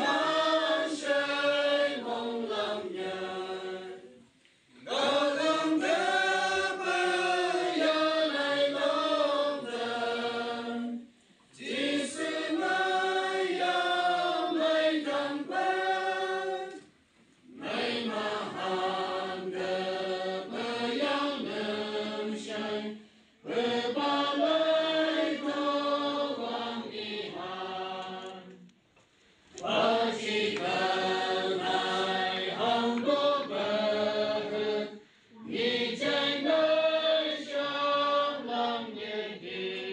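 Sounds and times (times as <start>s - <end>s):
congregation singing a hymn: 0.0s - 4.2s, 4.8s - 16.9s, 17.5s - 28.7s, 29.5s - 39.9s.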